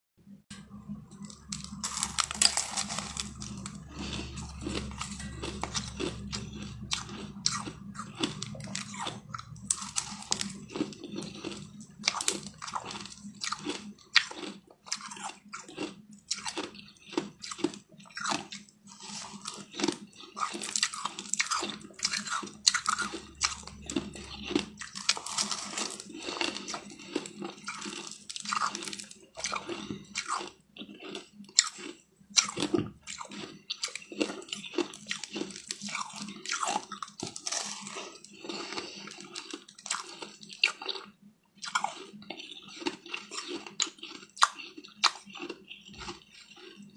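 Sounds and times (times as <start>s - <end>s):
crushed ice being chewed: 1.1s - 46.9s.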